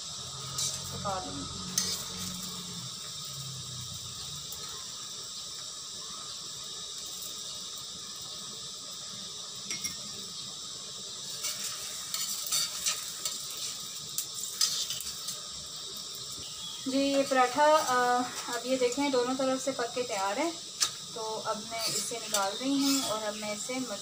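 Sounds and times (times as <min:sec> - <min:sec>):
flatbread sizzling on a griddle: 0:00.0 - 0:24.0.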